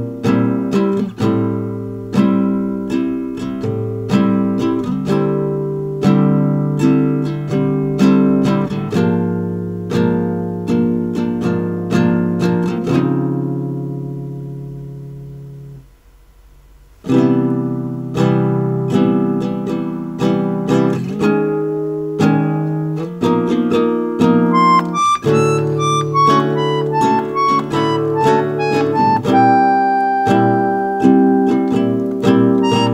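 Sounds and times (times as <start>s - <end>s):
acoustic guitar playing: 0.0s - 32.9s.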